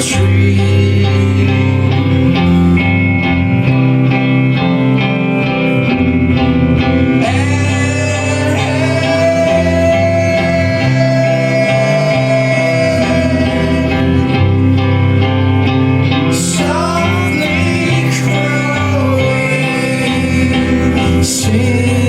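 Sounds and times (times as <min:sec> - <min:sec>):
electric guitars playing chords: 0:00.0 - 0:22.0
person singing: 0:00.0 - 0:22.0.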